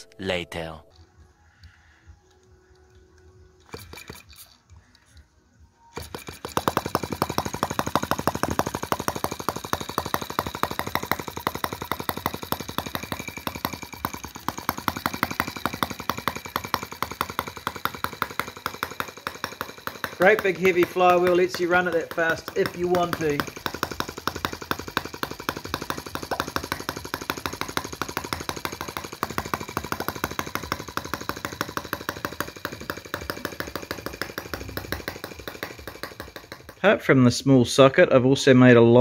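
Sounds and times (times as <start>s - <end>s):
small engine running fast: 1.6s - 4.8s, 5.9s - 37.1s
engine clicks when spun: 1.6s - 5.2s, 5.9s - 37.0s.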